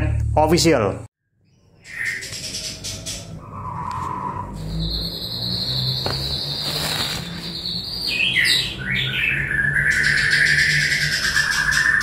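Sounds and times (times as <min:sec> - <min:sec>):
songbirds singing: 0:01.2 - 0:12.0.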